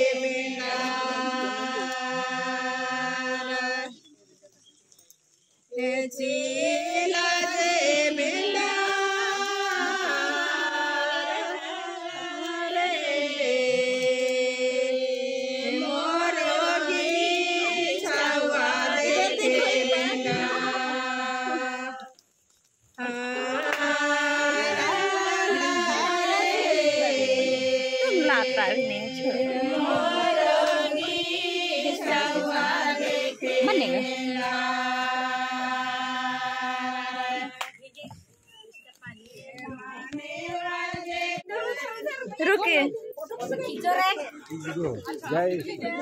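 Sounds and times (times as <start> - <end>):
voices singing slow melody: 0.0 - 43.6.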